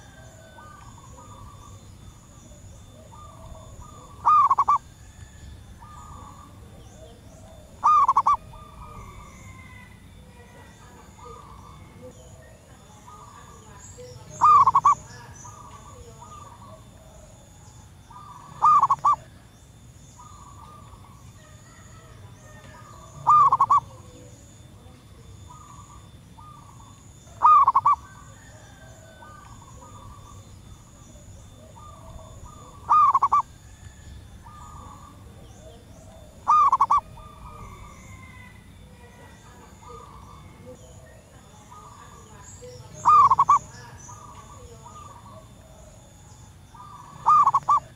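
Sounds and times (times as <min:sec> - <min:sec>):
dove calling: 0:00.0 - 0:47.9
softer bird calls: 0:00.0 - 0:47.9.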